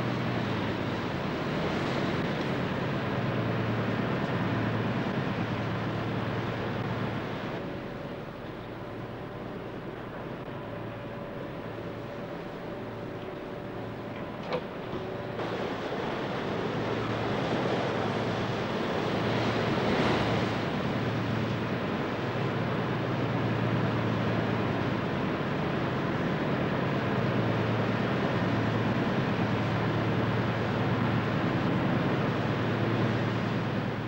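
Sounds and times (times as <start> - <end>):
sea water rushing over deck: 0.0 - 34.0.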